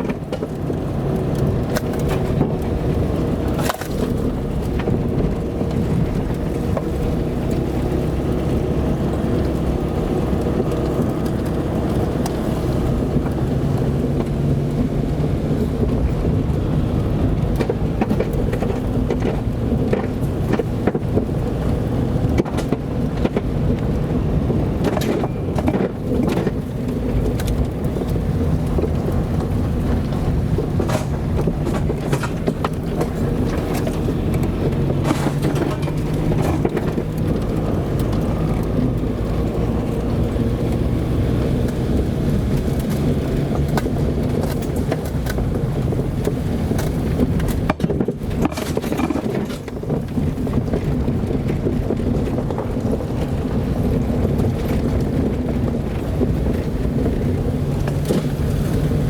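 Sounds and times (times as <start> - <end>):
car engine running: 0.0 - 59.0
gravel knocks and clicks: 0.0 - 59.0
tyres rumbling on dirt road: 0.0 - 59.0.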